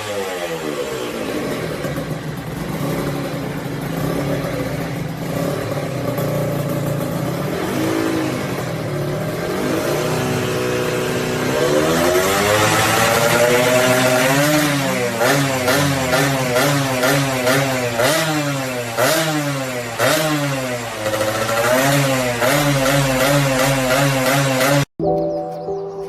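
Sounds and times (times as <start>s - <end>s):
two-stroke motorcycle engine revving: 0.0s - 24.9s.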